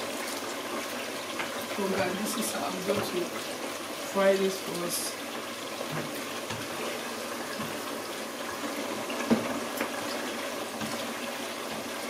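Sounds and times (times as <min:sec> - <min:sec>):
stew frying and bubbling: 0:00.0 - 0:12.0.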